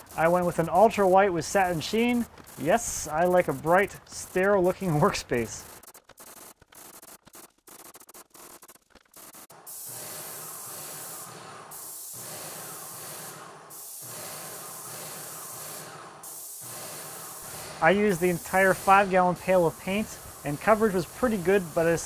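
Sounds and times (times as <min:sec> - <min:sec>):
paint sprayer hissing: 0:00.0 - 0:22.0.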